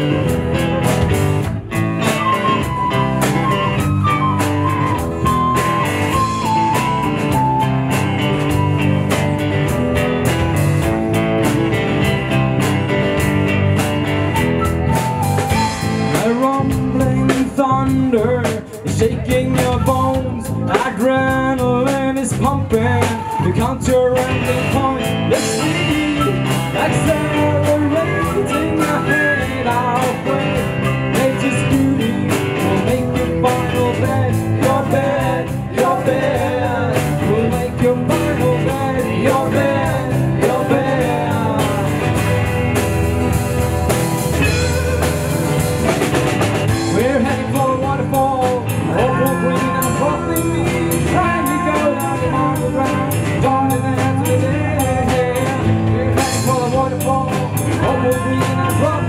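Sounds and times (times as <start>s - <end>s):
acoustic and electric guitars: 0.0s - 59.0s
drum kit beat: 0.0s - 59.0s.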